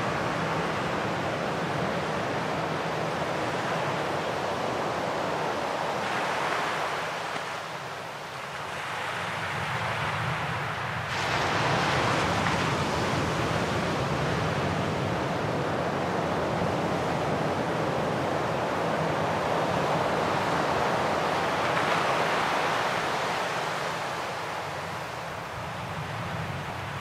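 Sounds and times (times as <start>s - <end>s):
sea surf washing over shore: 0.0s - 27.0s.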